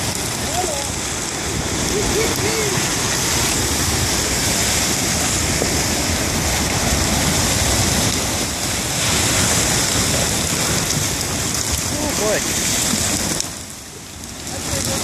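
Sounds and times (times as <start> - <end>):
river ice and water rushing: 0.0 - 15.0.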